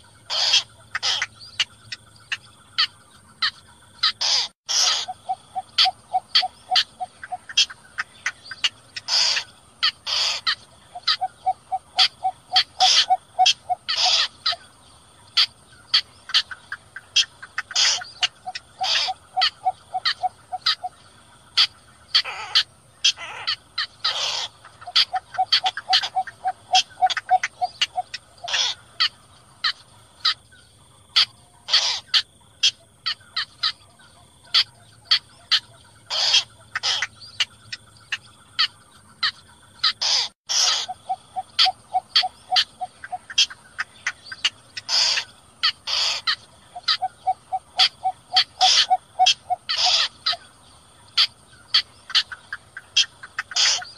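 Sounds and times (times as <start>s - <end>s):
bird calls: 0.0s - 53.9s.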